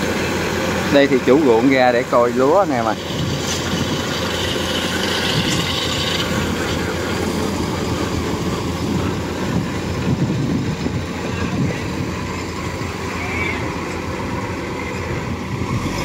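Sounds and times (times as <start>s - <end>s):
combine harvester engine running: 0.0s - 16.0s
tracked grain cart idling: 0.0s - 16.0s.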